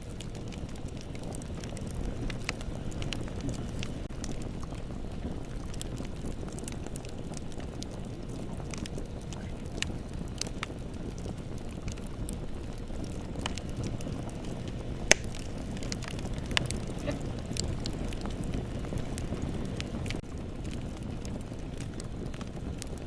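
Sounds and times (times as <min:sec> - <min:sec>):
bonfire flames rushing: 0:00.0 - 0:23.0
wood crackling and popping: 0:00.0 - 0:23.0.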